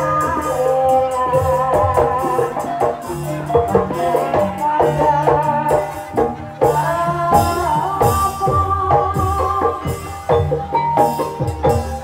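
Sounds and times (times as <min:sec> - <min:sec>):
drumming: 0:00.0 - 0:12.0
struck pitched percussion: 0:00.0 - 0:12.0.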